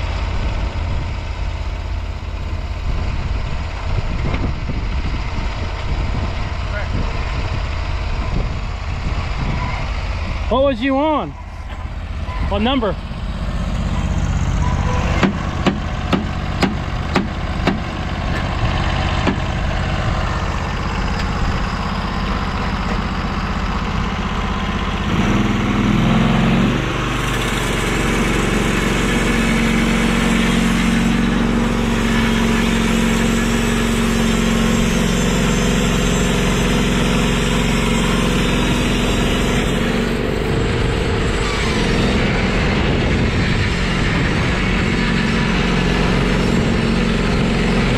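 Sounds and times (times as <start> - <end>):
gas engine running: 0.0 - 47.9.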